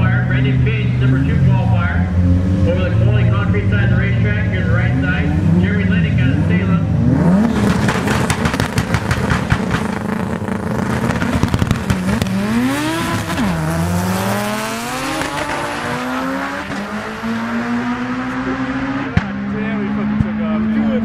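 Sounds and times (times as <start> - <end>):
race car engines revving: 0.0 - 21.0
race cars accelerating away: 0.0 - 21.0.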